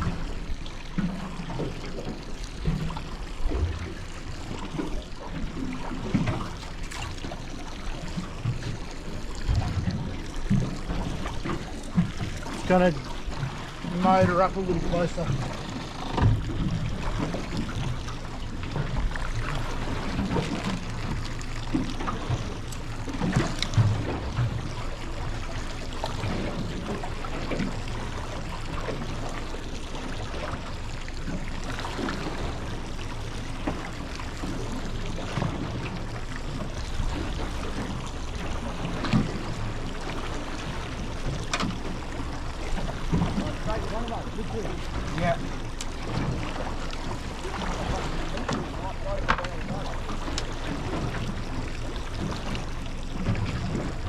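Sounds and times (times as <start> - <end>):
boat motor running slowly: 0.0 - 54.0
water noise: 0.0 - 54.0.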